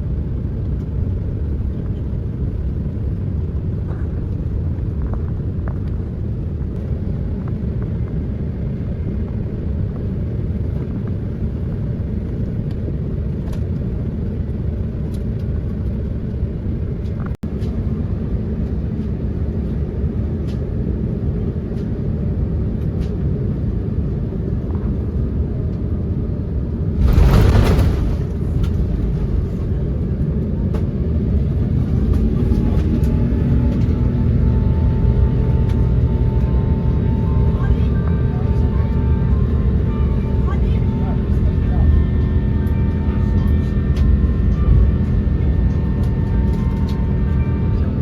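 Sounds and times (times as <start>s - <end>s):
airliner cabin rumble: 0.0s - 48.0s.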